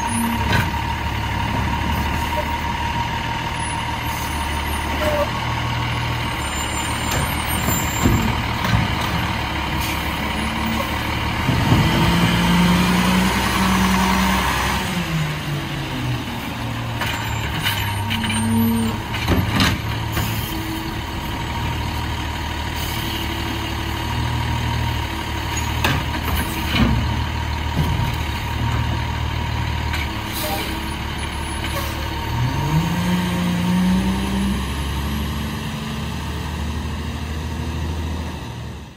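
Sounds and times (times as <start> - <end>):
garbage truck engine running: 0.0 - 38.9.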